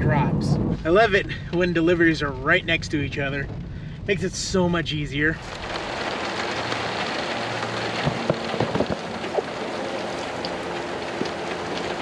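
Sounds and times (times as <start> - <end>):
rain on pavement: 0.7 - 12.0.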